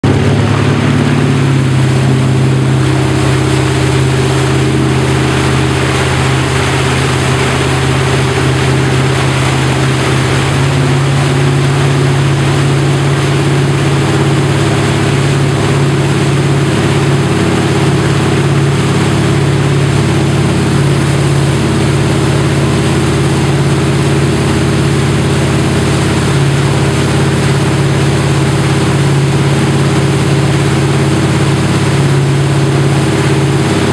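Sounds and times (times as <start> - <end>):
boat engine running: 0.0 - 33.9
water rushing from wake: 0.0 - 33.9.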